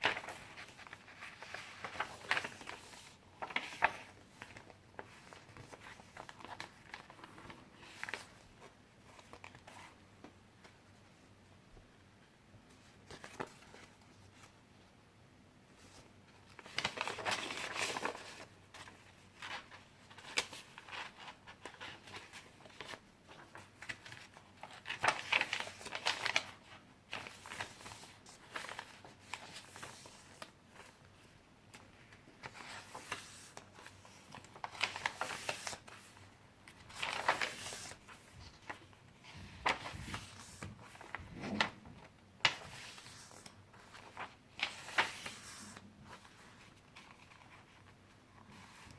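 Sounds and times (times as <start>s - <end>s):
paper pages rustling: 0.0s - 11.1s, 12.7s - 14.6s, 15.8s - 48.9s.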